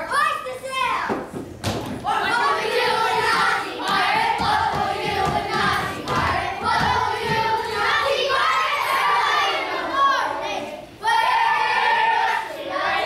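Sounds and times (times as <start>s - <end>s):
children singing in unison: 2.0s - 13.0s.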